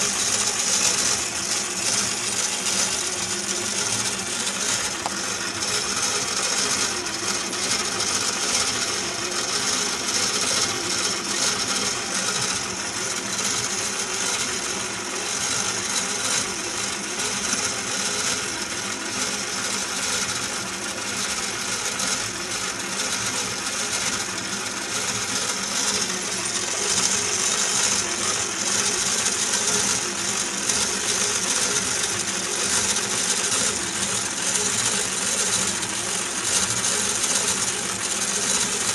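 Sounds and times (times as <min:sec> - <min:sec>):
model engine metallic clatter: 0:00.0 - 0:38.9.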